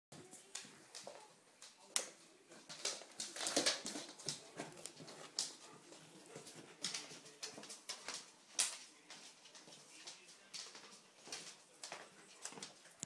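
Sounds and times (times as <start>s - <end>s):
dog claws clicking on hardwood: 0.6s - 13.0s.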